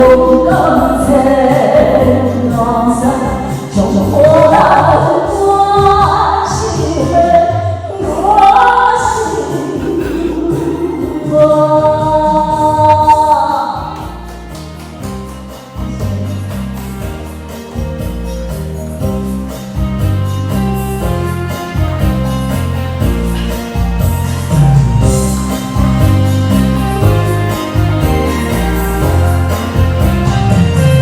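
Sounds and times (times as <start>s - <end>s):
ballad with singing: 0.0s - 31.0s.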